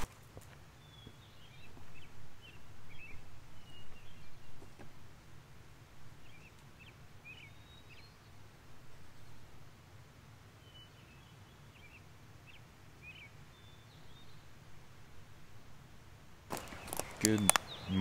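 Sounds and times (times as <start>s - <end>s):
low wind rumble: 0.0s - 18.0s
small birds chirping: 0.0s - 18.0s.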